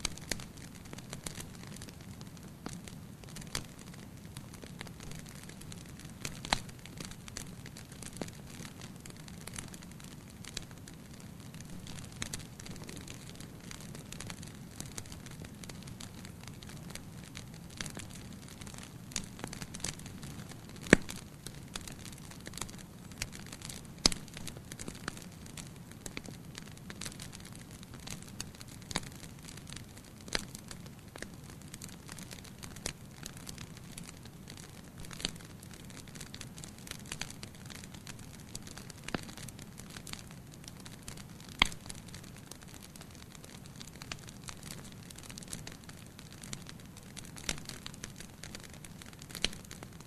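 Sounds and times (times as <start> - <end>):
fire crackling and popping: 0.0 - 50.0.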